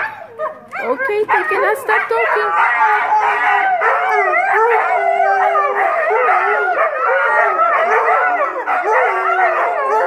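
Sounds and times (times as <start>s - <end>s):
huskies howling: 0.0s - 10.0s.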